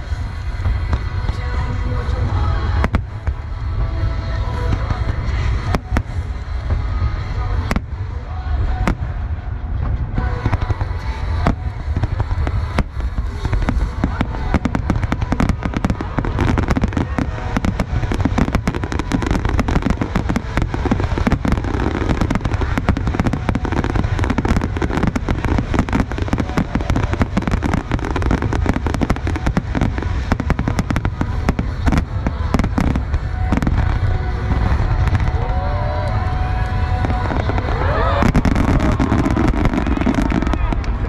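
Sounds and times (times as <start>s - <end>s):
fireworks booming and crackling: 0.0s - 41.0s.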